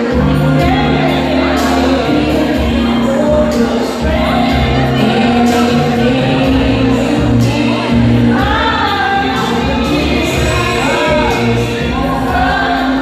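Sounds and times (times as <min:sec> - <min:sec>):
loud amplified music with bass: 0:00.0 - 0:13.0
woman singing into microphone: 0:00.0 - 0:13.0.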